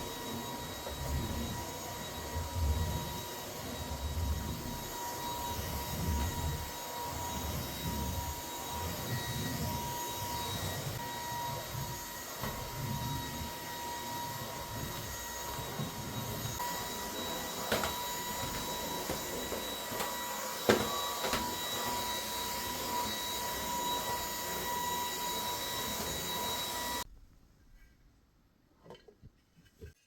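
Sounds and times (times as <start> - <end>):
small electric machine whining: 0.0 - 27.1.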